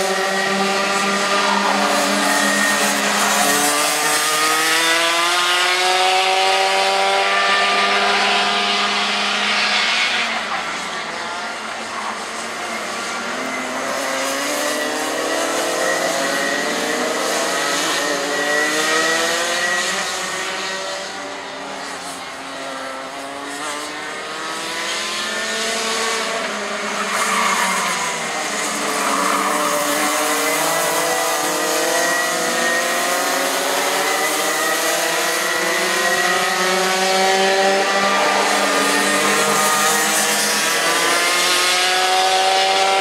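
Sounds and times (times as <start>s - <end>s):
racing kart engines: 0.0s - 43.0s.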